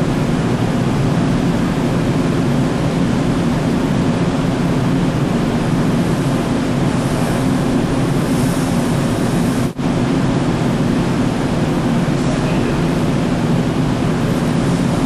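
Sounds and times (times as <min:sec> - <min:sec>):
ship machinery drone with hiss: 0:00.0 - 0:15.0.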